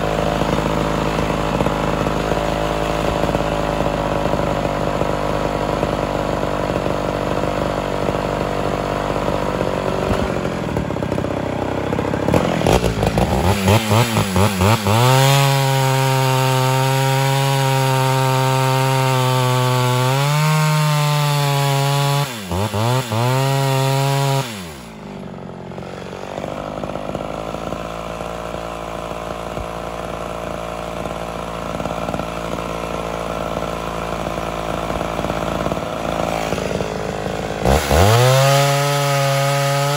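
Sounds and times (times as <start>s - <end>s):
chainsaw revving and cutting log: 0.0s - 39.9s.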